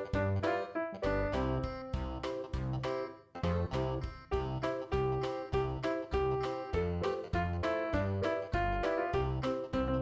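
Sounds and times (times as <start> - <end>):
keyboard melody with bass: 0.0 - 10.0.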